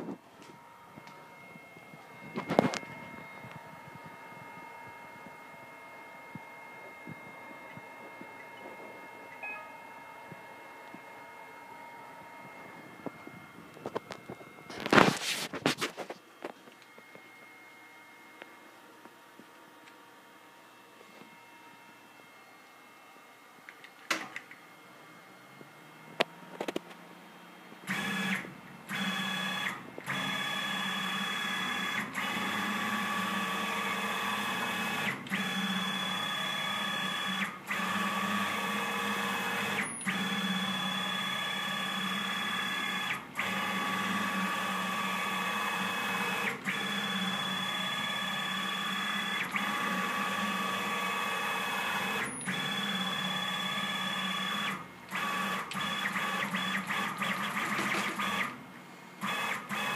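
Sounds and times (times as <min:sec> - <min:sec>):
milling machine motor whine: 0:00.0 - 0:58.6.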